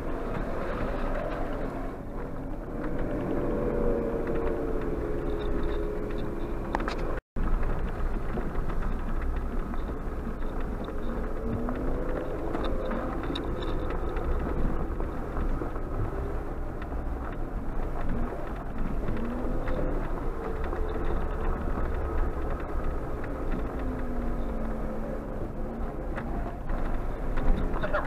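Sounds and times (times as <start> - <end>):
car engine while driving: 0.0 - 28.0
small clicks and rattles: 0.0 - 28.0
tyres rumbling on gravel: 0.0 - 28.0.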